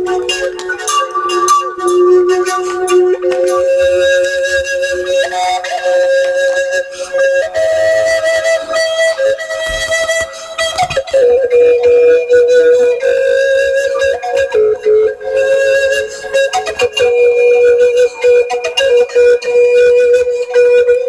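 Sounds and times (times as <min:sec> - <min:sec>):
flute-like melody: 0:00.0 - 0:21.0
light percussion: 0:00.0 - 0:21.0.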